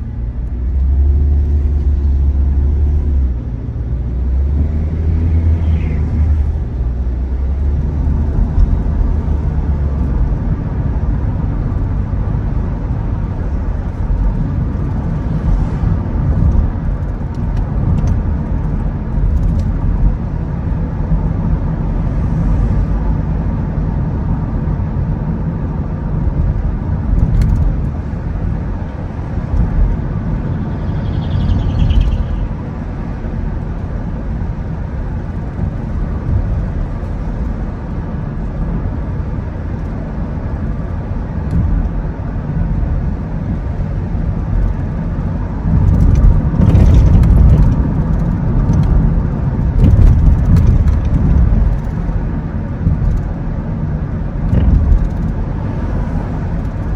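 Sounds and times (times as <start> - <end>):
car engine rumble: 0.0 - 56.9
road noise: 0.0 - 56.9.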